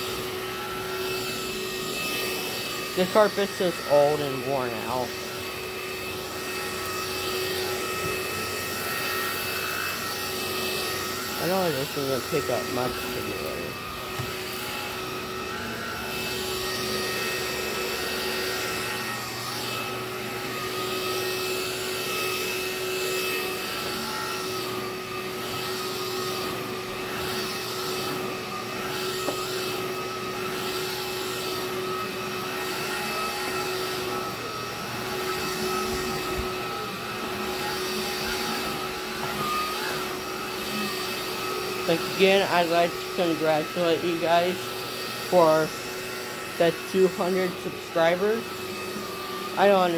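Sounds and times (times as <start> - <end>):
vacuum motor whine: 0.0 - 49.9.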